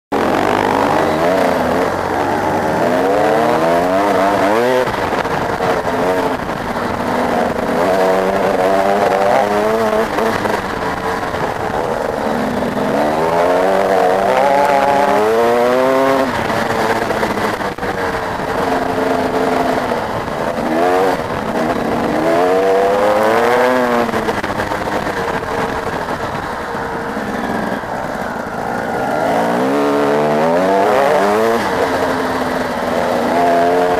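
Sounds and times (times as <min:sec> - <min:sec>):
motocross bike engines revving: 0:00.1 - 0:33.9.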